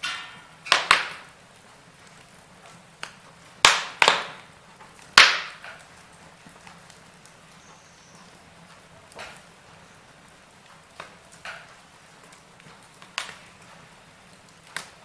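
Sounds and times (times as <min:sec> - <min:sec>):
low steady hiss: 0:00.0 - 0:15.0
wood fire crackling and popping: 0:00.0 - 0:15.0.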